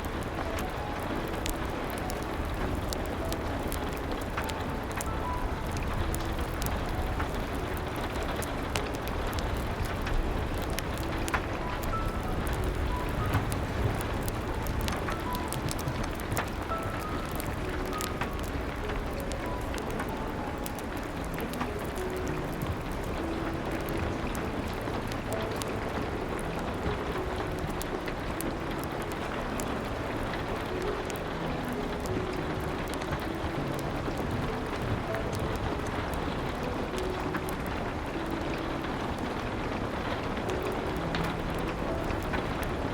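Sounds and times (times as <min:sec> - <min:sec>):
crackling wood fire pops: 0:00.0 - 0:42.9
soft piano notes: 0:00.0 - 0:42.9
steady rain falling: 0:00.0 - 0:42.9.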